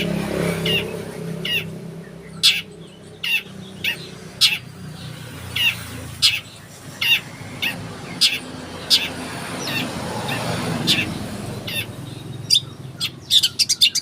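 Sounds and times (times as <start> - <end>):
songbird chirps: 0.0 - 14.0.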